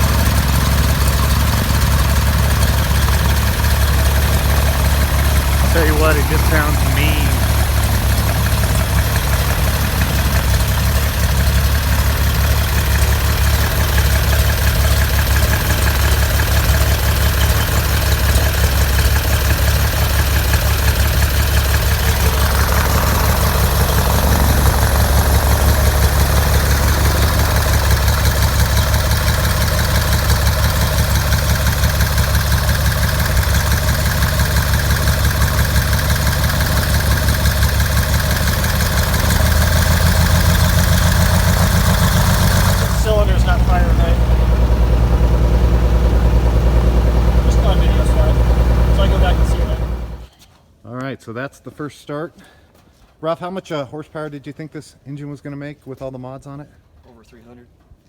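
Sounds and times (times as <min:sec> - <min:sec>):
higher engine note: 0:00.0 - 0:17.6, 0:19.1 - 0:50.3
aircraft engine rumbling: 0:00.0 - 0:50.2.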